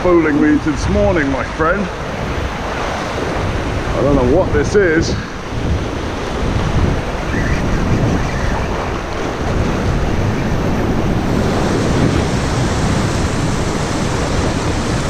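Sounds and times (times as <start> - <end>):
surf washing onto shore: 0.0 - 15.0
wind buffeting microphone: 0.0 - 15.0.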